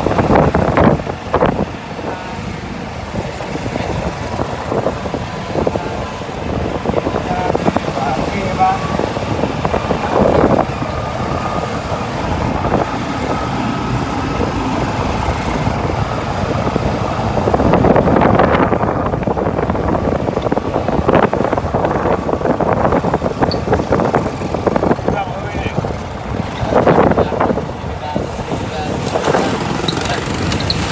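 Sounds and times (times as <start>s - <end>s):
golf cart driving on pavement: 0.0s - 30.9s.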